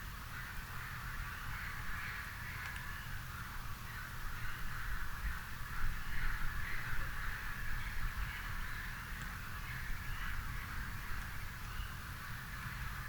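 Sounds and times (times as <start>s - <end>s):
distant crows cawing: 0.3s - 13.0s.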